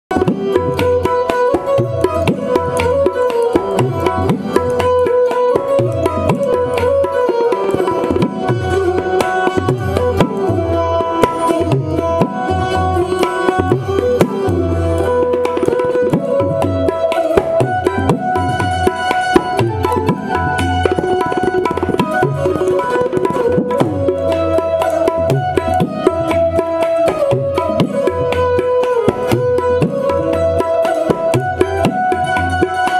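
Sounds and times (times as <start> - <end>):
plucked twangy keyed banjo melody: 0.1 - 32.9.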